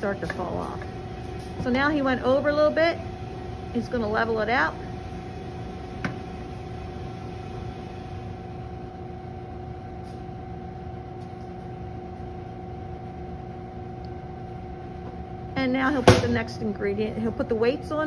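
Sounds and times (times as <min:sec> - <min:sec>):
kitchen machinery hum: 0:00.0 - 0:18.0.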